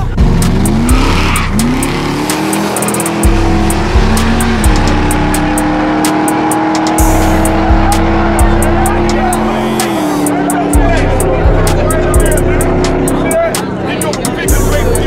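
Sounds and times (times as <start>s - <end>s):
car engine revving: 0.0s - 15.0s
loud music with heavy bass: 0.0s - 15.0s.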